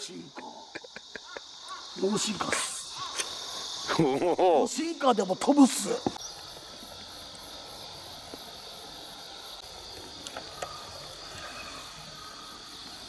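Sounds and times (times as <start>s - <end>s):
constant hiss: 0.0s - 13.0s
insects chirping: 0.0s - 13.0s.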